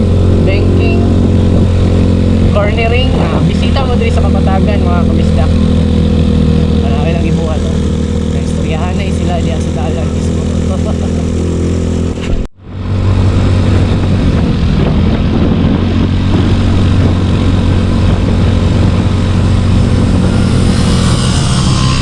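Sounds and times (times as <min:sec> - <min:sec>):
scooter engine running: 0:00.0 - 0:22.0
wind and road noise: 0:00.0 - 0:22.0.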